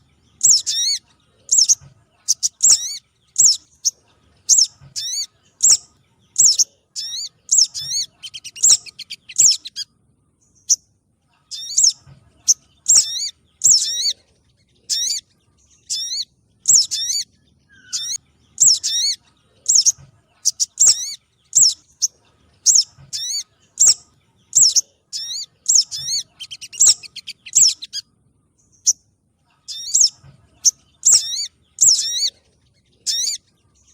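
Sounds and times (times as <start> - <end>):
sharp high bird chirps: 0.0 - 10.9, 11.5 - 14.2, 14.8 - 32.4, 33.0 - 33.9.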